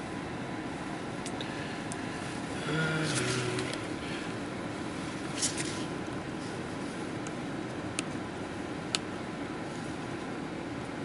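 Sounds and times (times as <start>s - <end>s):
blower fan humming: 0.0s - 11.0s.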